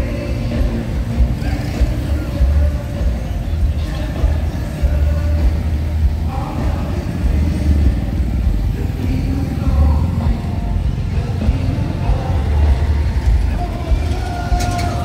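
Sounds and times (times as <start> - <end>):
cars and motorcycles driving past: 0.0 - 15.0.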